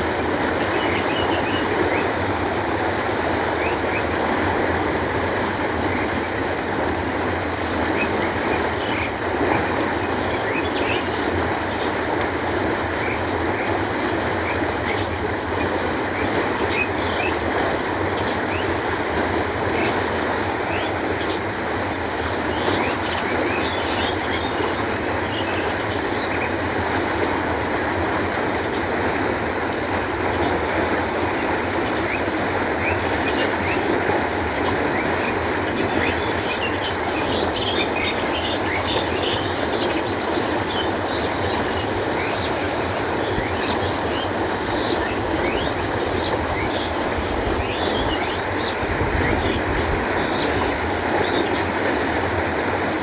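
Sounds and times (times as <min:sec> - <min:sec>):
water flowing: 0:00.0 - 0:53.0.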